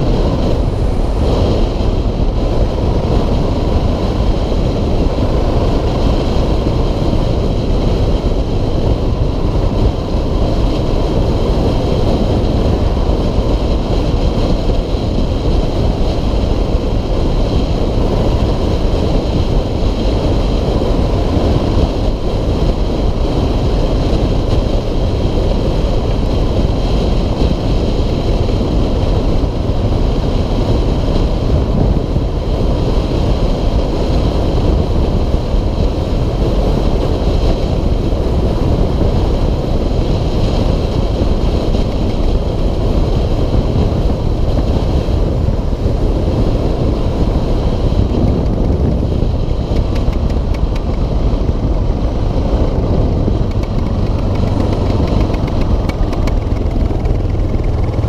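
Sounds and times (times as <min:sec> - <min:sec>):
motorcycle engine cruising: 0:00.0 - 0:58.0
wind buffeting microphone: 0:00.0 - 0:58.0.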